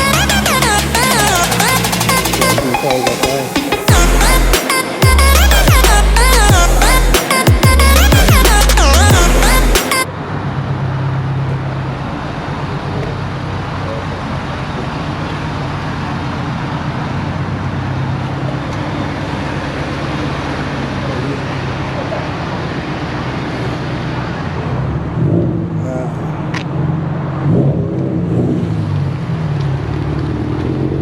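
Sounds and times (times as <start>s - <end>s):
vehicle engine running: 3.8s - 31.0s.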